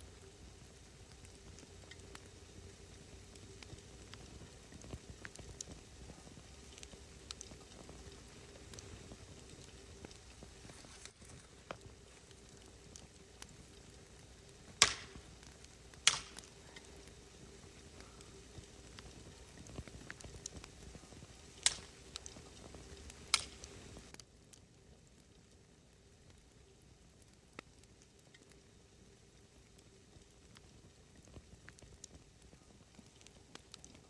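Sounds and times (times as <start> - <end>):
faint steady hum: 0.0 - 34.0
wood fire crackling: 0.0 - 34.0.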